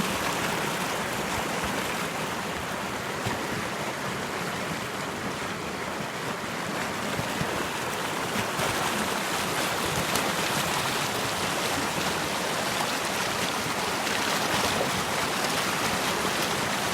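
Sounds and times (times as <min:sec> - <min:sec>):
running water rushing: 0:00.0 - 0:16.9.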